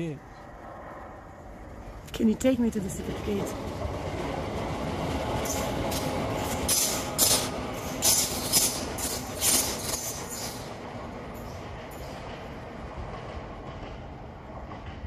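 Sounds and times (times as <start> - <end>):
train rumbling: 0.0 - 15.0
train wheels clacking: 2.1 - 15.0.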